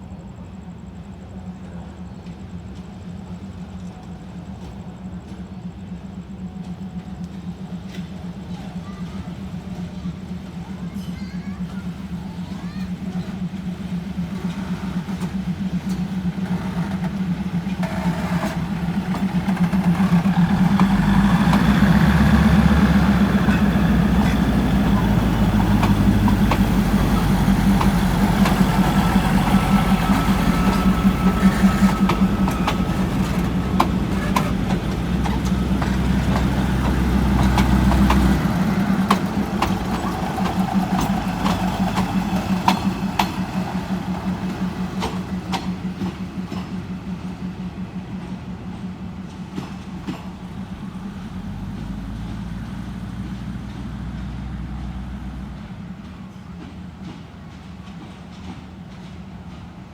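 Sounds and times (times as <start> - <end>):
diesel train engine running: 0.0 - 59.9.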